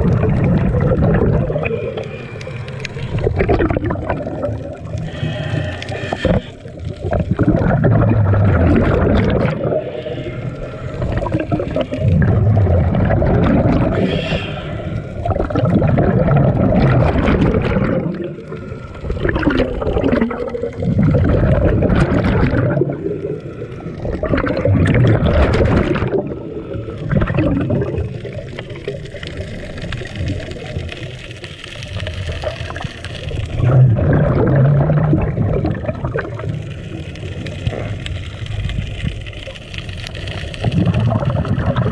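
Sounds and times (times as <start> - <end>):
diver exhaling bubbles underwater: 0.0 - 41.9.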